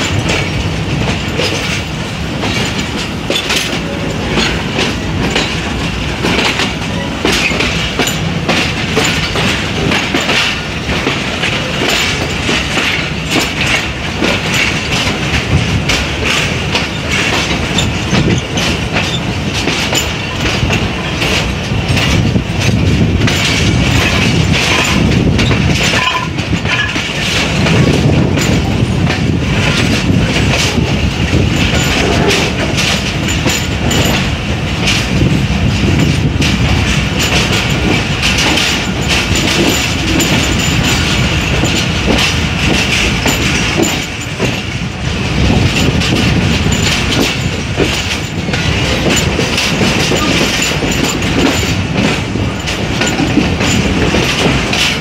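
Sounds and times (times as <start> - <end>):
train rumble and rushing: 0.0 - 55.0
wheels clacking over rail joints: 0.0 - 55.0.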